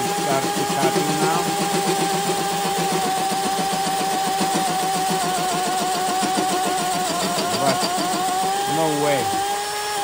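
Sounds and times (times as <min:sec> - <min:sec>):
cordless drill whining with chatter: 0:00.0 - 0:10.0.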